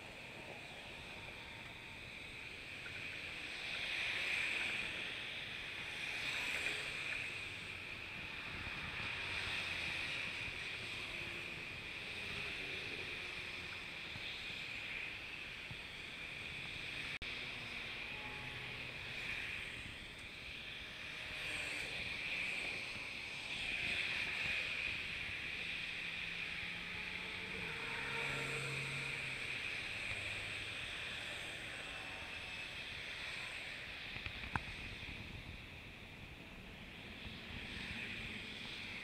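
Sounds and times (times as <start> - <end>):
road traffic: 0.0 - 39.0
wind: 0.0 - 39.0.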